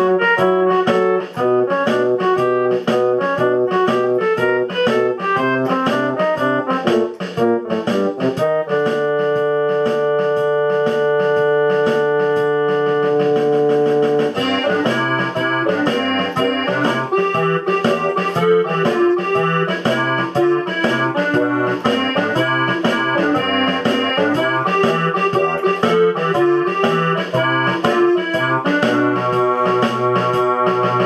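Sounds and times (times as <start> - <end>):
keyboard music with bass line: 0.0 - 31.0.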